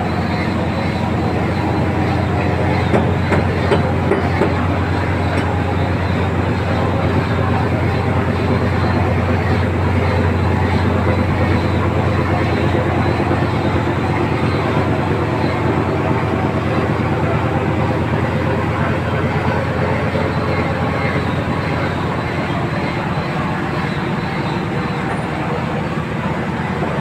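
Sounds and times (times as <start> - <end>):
boat diesel engine droning: 0.0 - 27.0.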